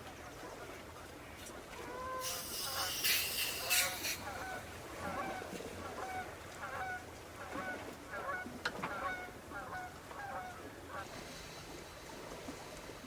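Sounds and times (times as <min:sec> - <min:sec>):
faint steady hiss: 0:00.0 - 0:08.3, 0:09.0 - 0:13.0.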